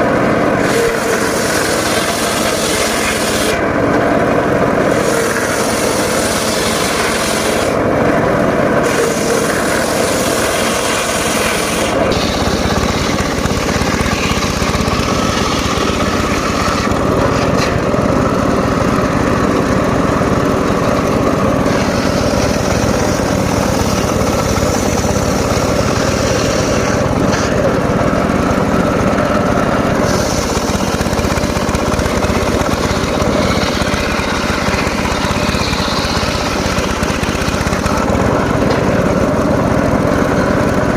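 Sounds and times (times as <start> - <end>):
circular saw cutting wood: 0.0 - 40.9.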